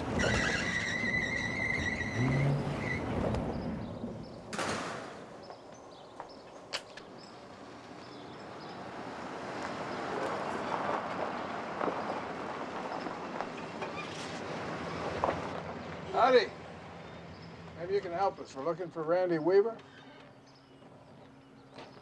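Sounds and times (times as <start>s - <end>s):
truck engine: 0.0s - 5.5s, 6.5s - 19.0s
tyres on gravel: 0.0s - 22.0s.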